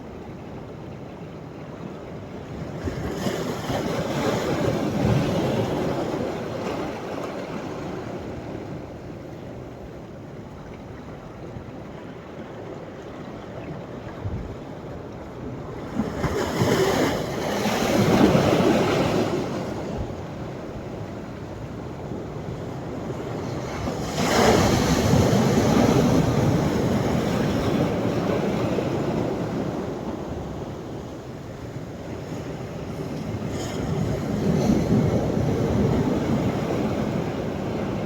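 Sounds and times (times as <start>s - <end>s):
sea waves breaking on shore: 1.6s - 38.0s.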